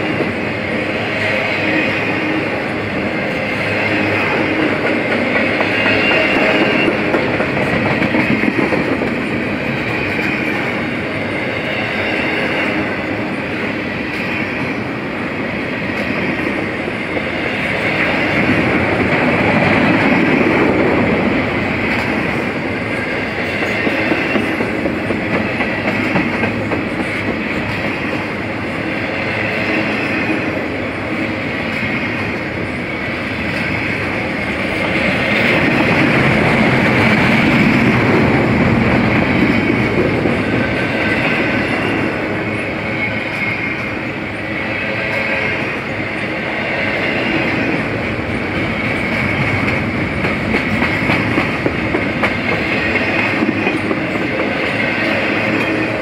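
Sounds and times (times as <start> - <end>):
rail clatter: 0.0 - 56.0
train wheels rumbling on rails: 0.0 - 56.0.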